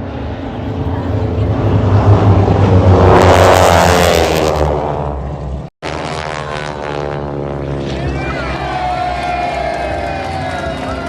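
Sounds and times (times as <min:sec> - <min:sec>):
airplane engine drone: 0:00.0 - 0:11.0
airplane flying low past: 0:00.0 - 0:11.0.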